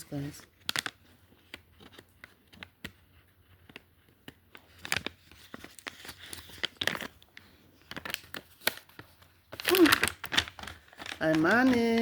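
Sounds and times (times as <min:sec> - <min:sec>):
packaging crinkling and tearing: 0:00.2 - 0:03.0, 0:03.6 - 0:12.0.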